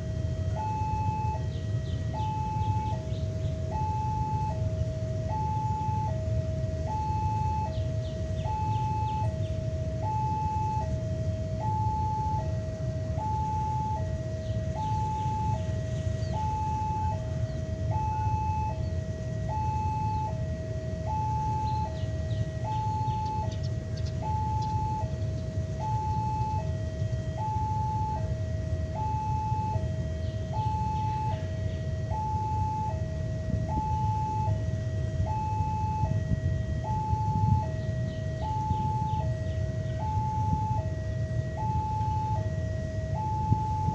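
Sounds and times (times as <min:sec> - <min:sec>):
level crossing two-tone alarm: 0:00.0 - 0:43.9.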